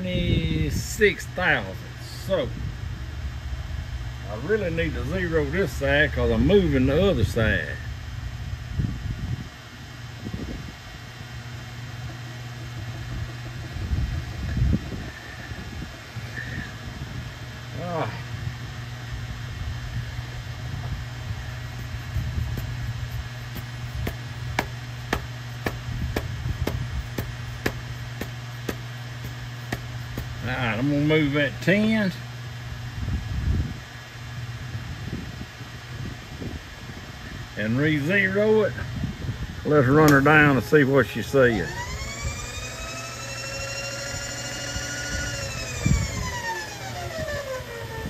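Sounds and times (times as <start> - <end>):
milling machine feed motor whining: 0.0 - 32.9, 39.5 - 48.0
steady low hum: 0.0 - 48.0.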